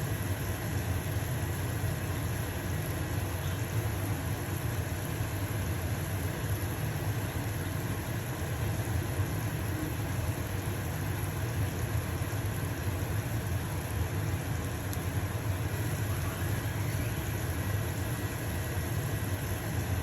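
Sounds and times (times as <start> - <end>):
exhaust fan humming: 0.0 - 20.0
pancake sizzling in a pan: 0.0 - 20.0.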